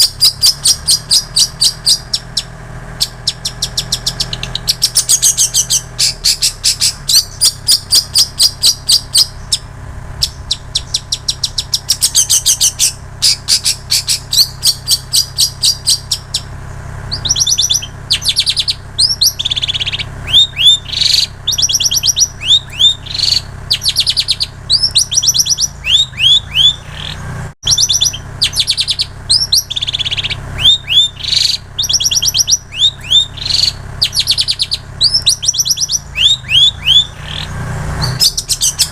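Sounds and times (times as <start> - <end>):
shrike singing mimicking song: 0.0 - 38.9.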